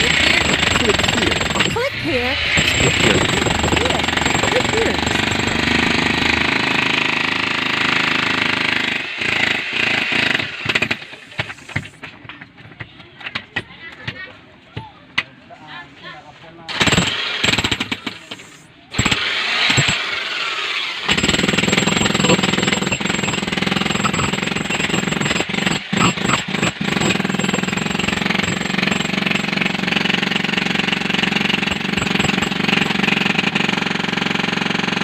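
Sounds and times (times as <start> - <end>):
jackhammer breaking concrete: 0.0 - 12.0, 16.7 - 35.0.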